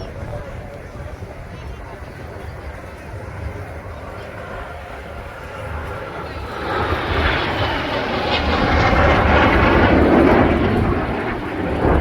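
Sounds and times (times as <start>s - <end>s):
plane flying past: 0.0s - 12.0s.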